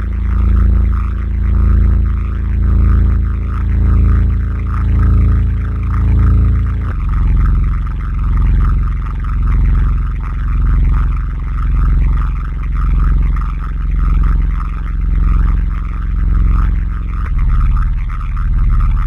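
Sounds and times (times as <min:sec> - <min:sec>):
deep pulsing rumble drone: 0:00.0 - 0:19.0.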